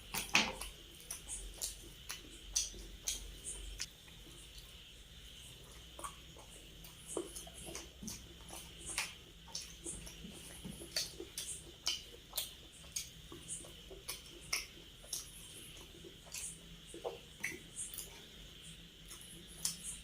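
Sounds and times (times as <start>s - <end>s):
faint steady hiss: 0.0s - 20.0s
wet chewing and lip smacks: 0.1s - 4.8s, 5.4s - 20.0s.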